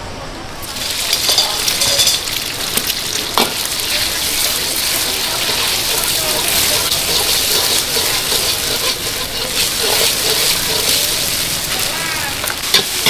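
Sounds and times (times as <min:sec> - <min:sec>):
rice sizzling in a wok: 0:00.6 - 0:13.0
utensil clinking on metal: 0:00.7 - 0:13.0.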